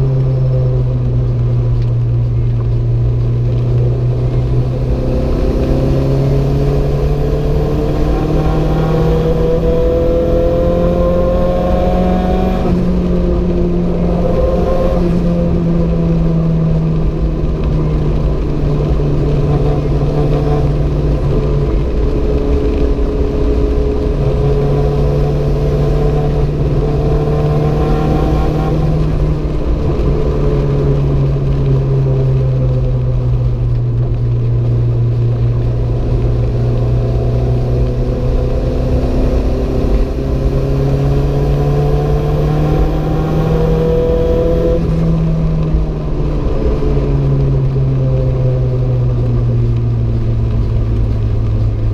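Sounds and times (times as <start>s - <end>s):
car engine running hard: 0.0s - 51.9s
road and tyre noise: 0.0s - 51.9s.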